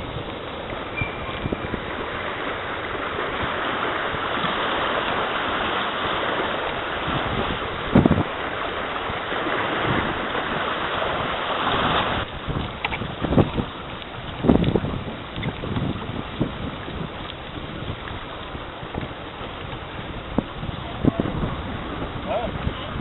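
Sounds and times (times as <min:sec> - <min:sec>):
river water rushing: 0:00.0 - 0:23.0
wind buffeting microphone: 0:00.0 - 0:23.0.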